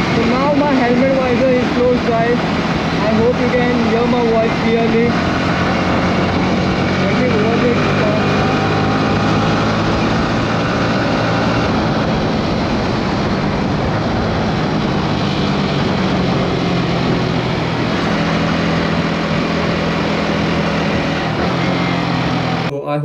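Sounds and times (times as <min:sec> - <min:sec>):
motorcycle engine running: 0:00.0 - 0:22.7
wind rush: 0:00.0 - 0:22.7.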